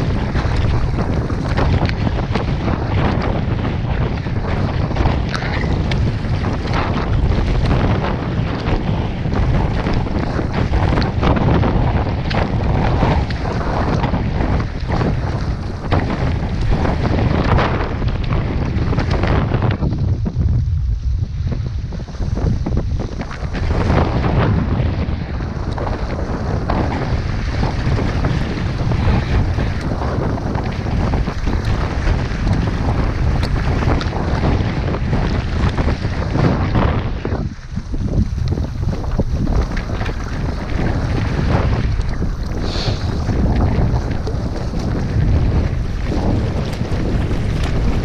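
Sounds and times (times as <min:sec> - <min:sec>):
choppy water splashing: 0:00.0 - 0:48.0
strong wind on microphone: 0:00.0 - 0:48.0.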